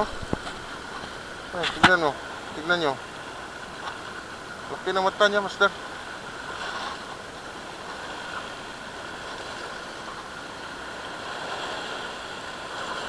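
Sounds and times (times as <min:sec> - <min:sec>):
waves washing over rocks: 0:00.0 - 0:13.0.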